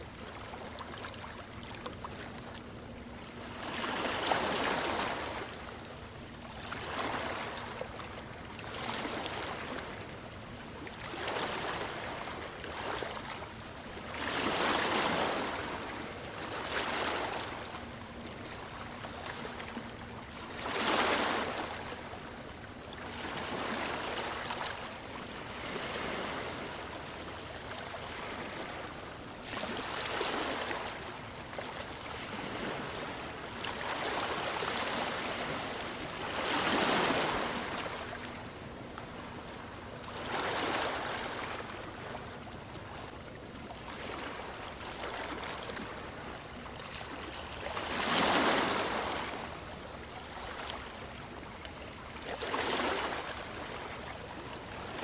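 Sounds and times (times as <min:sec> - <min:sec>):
ocean waves breaking on beach: 0:03.4 - 0:05.7, 0:08.6 - 0:22.4, 0:23.0 - 0:43.1, 0:43.8 - 0:55.0.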